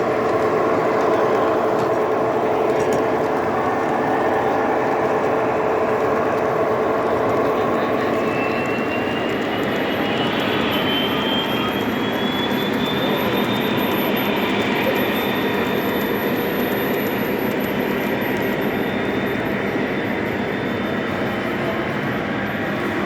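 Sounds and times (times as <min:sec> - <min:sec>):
thin motor whine: 0:00.1 - 0:23.0.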